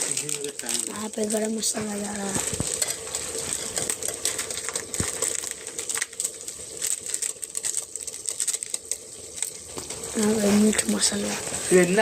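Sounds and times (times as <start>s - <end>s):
meat frying in oil: 0.0s - 12.0s
oil crackling and spitting: 0.0s - 12.0s.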